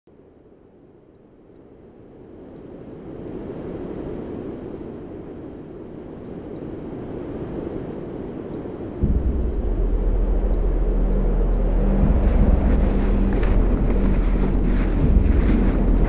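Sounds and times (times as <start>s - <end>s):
low wind-like rumble: 0.1s - 16.0s.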